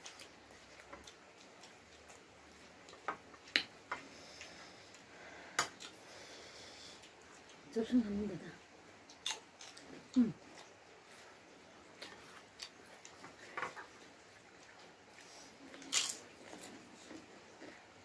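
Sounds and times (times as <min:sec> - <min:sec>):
crunching and chewing: 0:00.0 - 0:06.0, 0:09.0 - 0:18.0.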